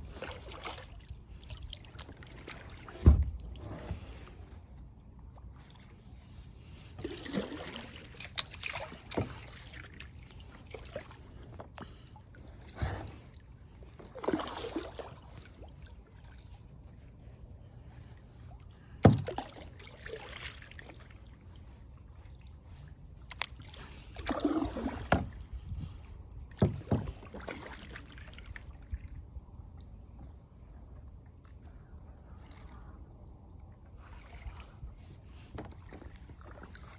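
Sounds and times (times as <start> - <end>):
paddle swishing water: 0.0 - 36.9.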